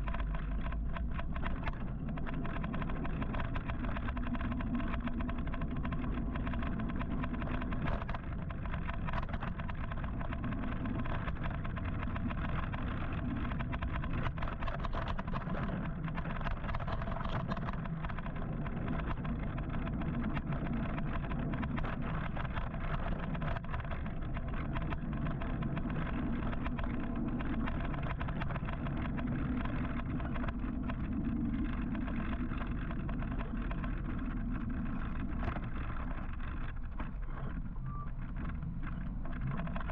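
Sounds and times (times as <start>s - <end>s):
low wind rumble: 0.0s - 39.9s.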